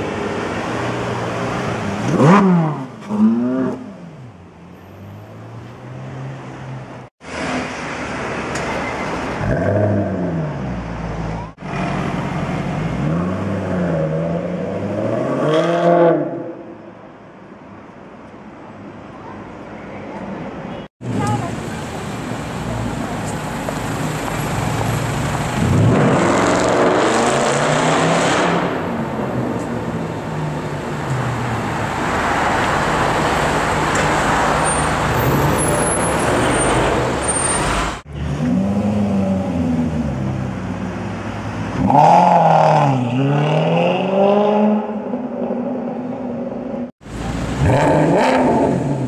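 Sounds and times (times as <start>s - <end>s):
sports car engines revving: 0.0s - 7.0s, 9.2s - 16.7s, 21.1s - 49.0s.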